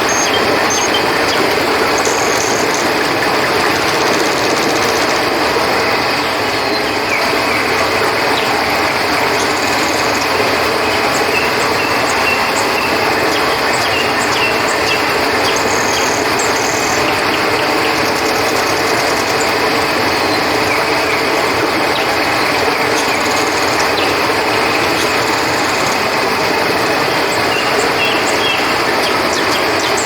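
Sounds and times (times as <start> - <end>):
crickets chirping: 0.0 - 30.0
river water rushing: 0.0 - 30.0.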